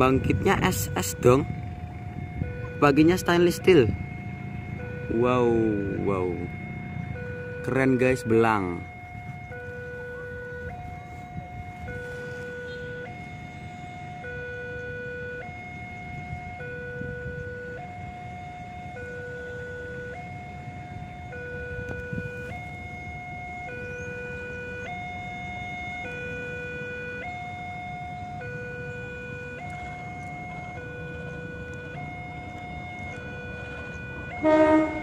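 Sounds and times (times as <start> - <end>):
two-tone electronic warning signal: 0.0 - 35.0.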